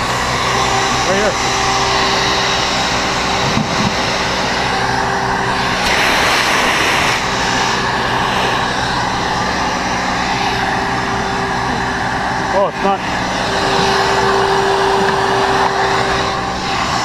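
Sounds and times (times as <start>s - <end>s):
machinery motor hum: 0.0s - 17.0s
rushing noise: 0.0s - 17.0s.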